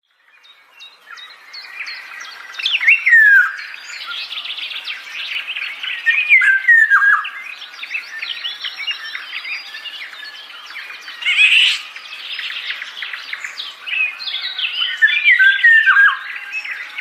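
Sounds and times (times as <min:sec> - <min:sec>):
birds chirping in chorus: 0:00.0 - 0:17.0
descending whistled bird call: 0:00.8 - 0:17.0.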